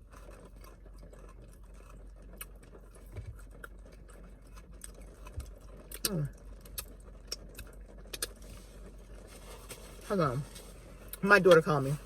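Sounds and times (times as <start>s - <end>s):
crunching crispy fries: 0.0s - 12.0s.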